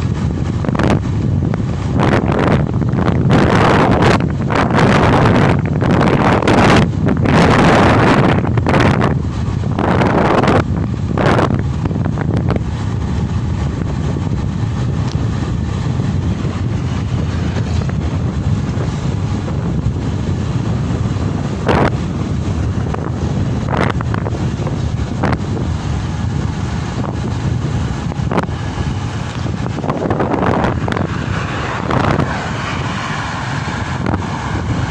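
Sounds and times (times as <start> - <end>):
motorcycle low rumble: 0.0 - 34.9
wind buffeting microphone: 0.0 - 34.9.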